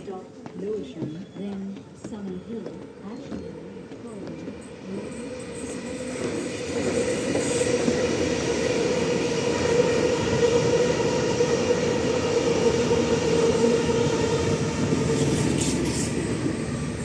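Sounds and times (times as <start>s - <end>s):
train wheels rumbling on rail: 0.0s - 17.0s
electric train hum: 2.3s - 17.0s.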